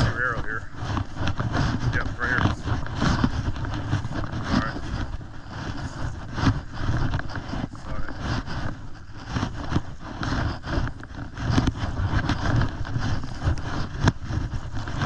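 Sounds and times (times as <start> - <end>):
footsteps through dry grass: 0.0 - 15.0
wind noise on microphone: 0.0 - 15.0.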